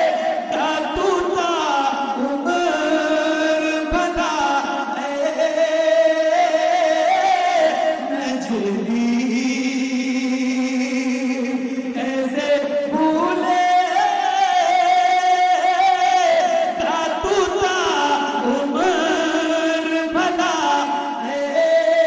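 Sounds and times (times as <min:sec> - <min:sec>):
man singing into microphone: 0:00.0 - 0:22.0.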